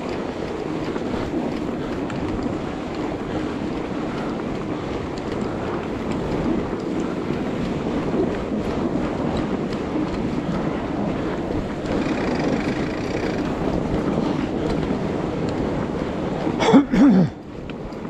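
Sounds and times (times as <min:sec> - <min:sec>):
bike rolling through snow: 0:00.0 - 0:18.0
wind noise on microphone: 0:00.0 - 0:18.0.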